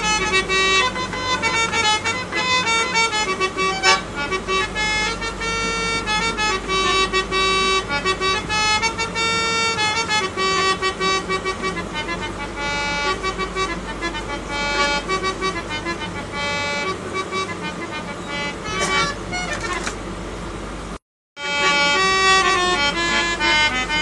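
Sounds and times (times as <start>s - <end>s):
harmonium playing a melody: 0.0s - 20.0s, 21.4s - 24.0s
low steady rumble: 0.0s - 24.0s.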